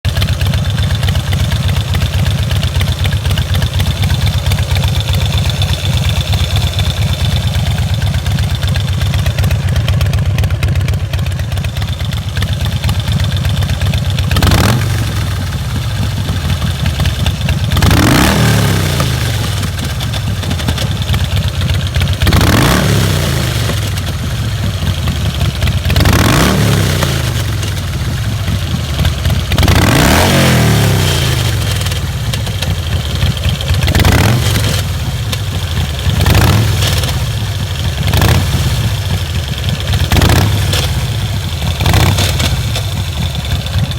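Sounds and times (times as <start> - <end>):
motorcycle engine idling and revving: 0.0 - 43.9
odd engine noise: 0.0 - 43.9.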